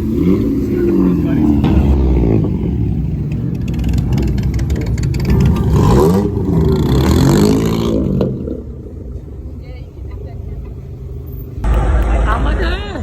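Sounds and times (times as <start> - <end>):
car engine revving: 0.0 - 9.5, 10.9 - 13.0.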